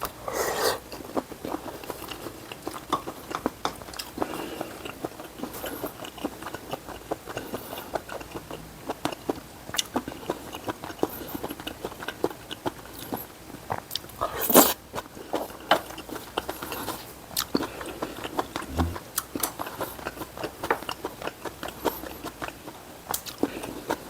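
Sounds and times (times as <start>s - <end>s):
wet chewing: 0.9s - 24.0s.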